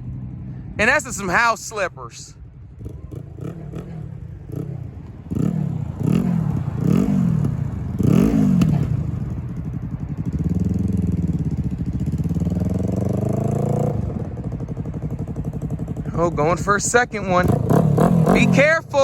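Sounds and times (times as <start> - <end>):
motorcycle engine revving: 2.4 - 19.0.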